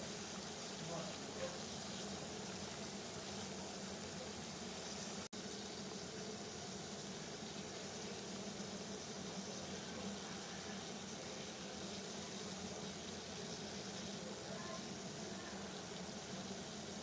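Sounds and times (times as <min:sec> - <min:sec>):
water boiling and bubbling: 0:00.0 - 0:17.0.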